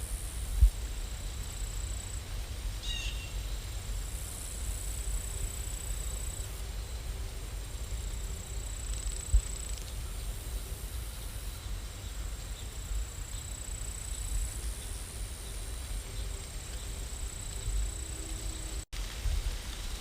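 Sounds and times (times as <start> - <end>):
faint high whine: 0.0 - 18.9
steady rain: 0.0 - 20.0.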